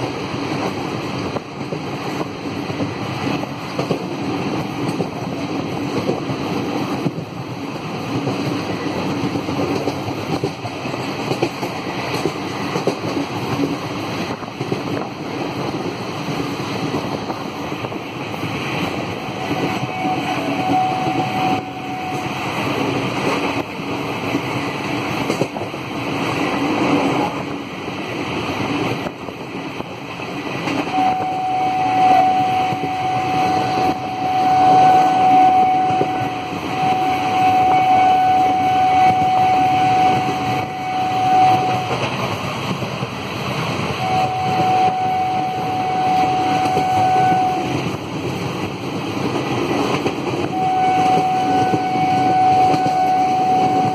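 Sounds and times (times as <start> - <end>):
train rumbling at speed: 0.0 - 53.9.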